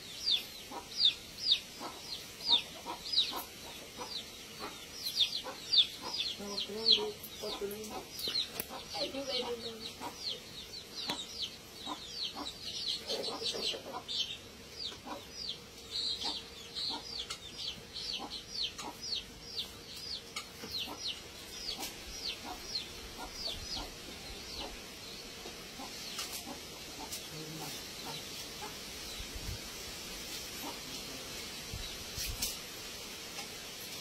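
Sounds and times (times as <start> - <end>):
bird chirping: 0.0 - 29.6.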